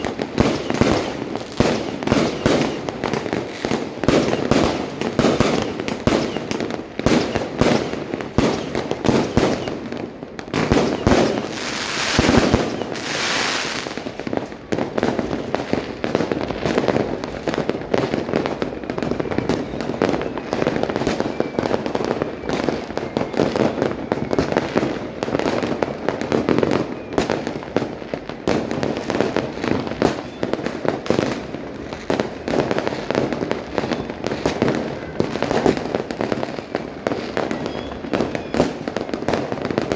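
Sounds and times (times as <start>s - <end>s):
fireworks and firecrackers banging: 0.0s - 39.9s
fireworks hissing: 0.0s - 39.9s.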